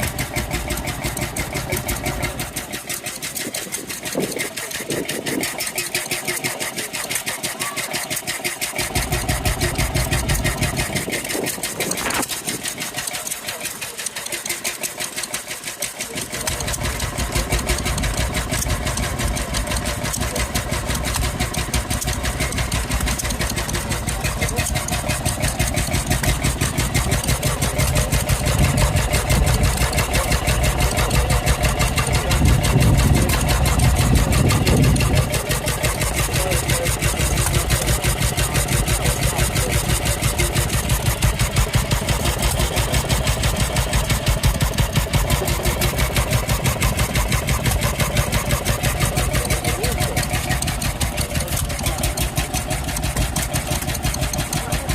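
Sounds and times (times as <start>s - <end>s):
stationary engine running: 0.0s - 54.9s.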